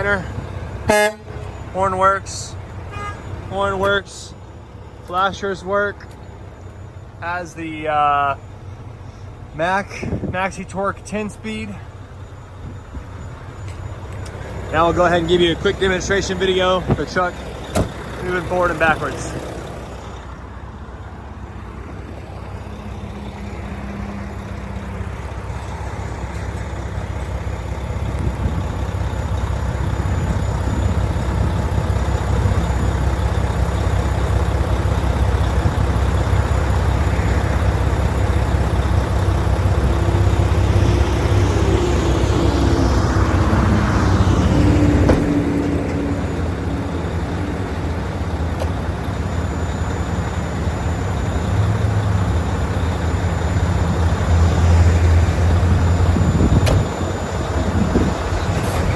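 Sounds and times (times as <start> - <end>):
diesel truck engine driving: 0.0 - 58.9.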